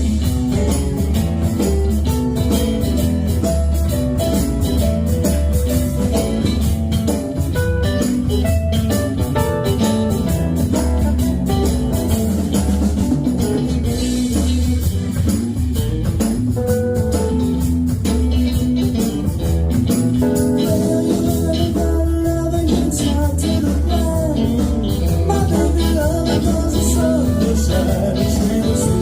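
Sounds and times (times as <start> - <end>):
live band playing instrumental: 0.0 - 29.0.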